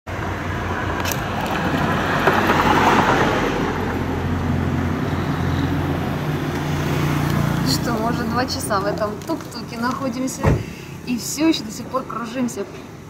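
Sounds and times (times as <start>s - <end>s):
road noise rushing: 0.1s - 13.0s.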